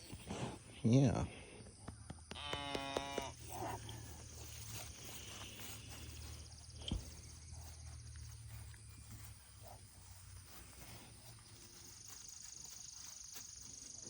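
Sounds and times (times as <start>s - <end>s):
high insect trill: 0.0s - 14.0s.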